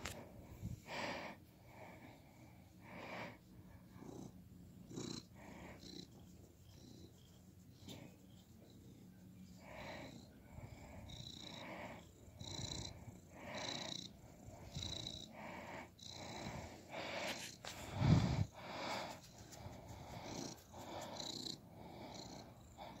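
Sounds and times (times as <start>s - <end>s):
cat purring: 1.8s - 23.0s.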